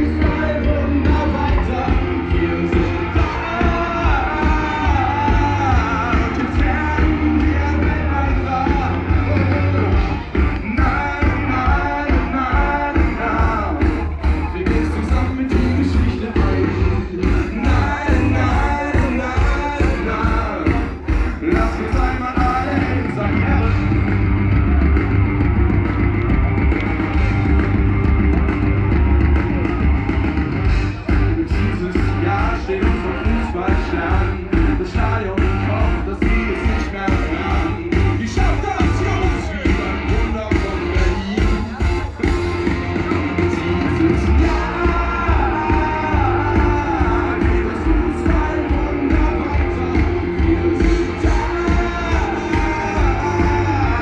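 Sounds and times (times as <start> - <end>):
person singing lead vocals: 0.0 - 24.9, 30.7 - 42.2, 42.9 - 54.0
live rock band: 0.0 - 54.0.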